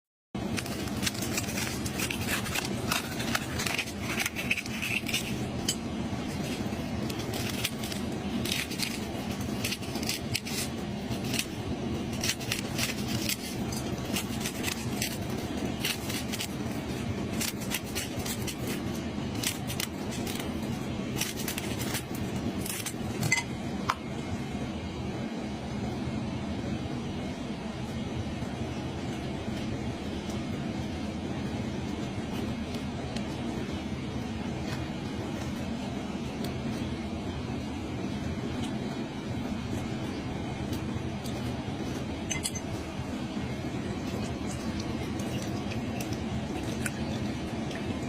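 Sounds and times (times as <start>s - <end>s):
low background rumble: 0.4s - 48.0s.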